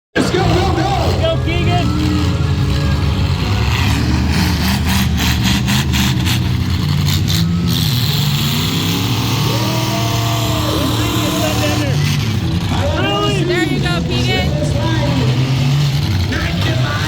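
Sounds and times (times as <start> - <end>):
car engines revving: 0.1 - 17.0.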